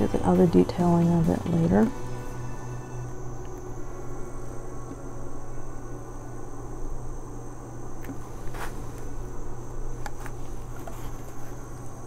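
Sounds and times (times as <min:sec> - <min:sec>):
background hum: 0:00.0 - 0:12.0
high-pitched whine: 0:00.0 - 0:12.0.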